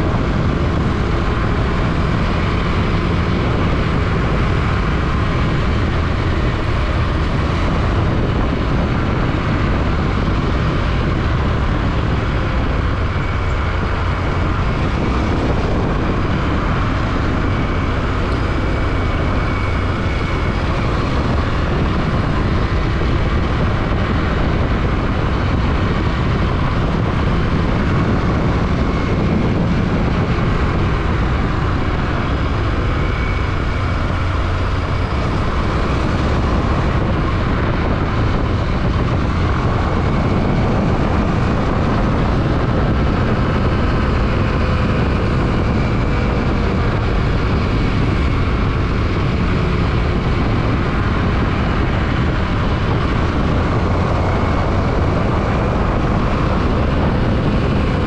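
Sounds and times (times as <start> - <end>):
motorcycle engine running: 0.0 - 58.0
wind rushing on microphone: 0.0 - 58.0.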